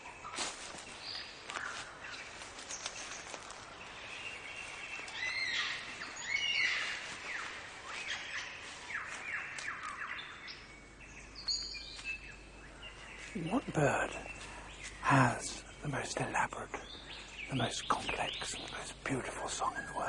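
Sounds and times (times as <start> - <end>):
birds chirping and whistling: 0.9 - 20.0.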